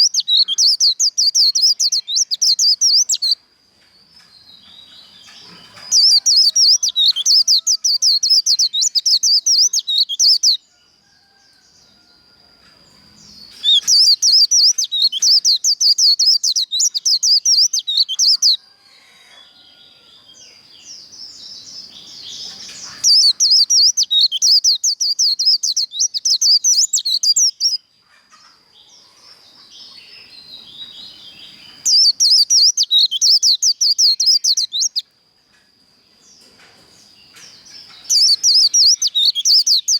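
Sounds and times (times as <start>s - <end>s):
bird singing fast twittering song: 0.0s - 3.4s, 4.0s - 10.7s, 13.1s - 18.6s, 20.3s - 27.9s, 29.6s - 35.1s, 36.4s - 39.9s
soft bird chirps: 0.0s - 3.4s, 4.0s - 12.2s, 12.9s - 18.6s, 19.2s - 35.1s, 36.1s - 39.9s.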